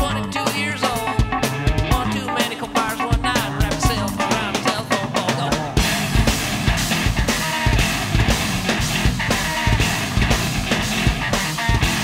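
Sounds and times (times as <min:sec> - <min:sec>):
distorted guitar: 0:00.0 - 0:12.0
drum beat: 0:00.0 - 0:12.0.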